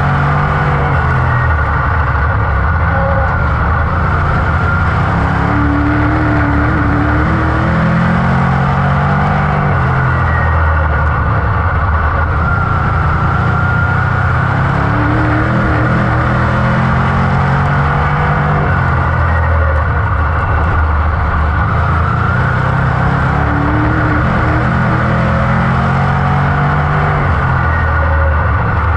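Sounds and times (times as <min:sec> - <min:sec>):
race car engine under load: 0:00.0 - 0:28.9.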